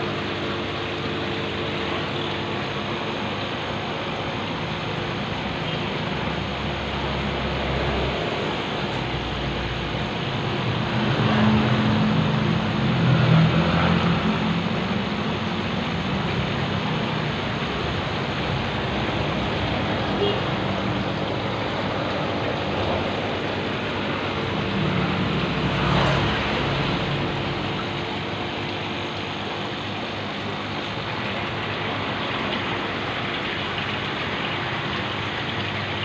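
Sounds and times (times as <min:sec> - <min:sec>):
aquarium bubbling hiss: 0:00.0 - 0:36.0.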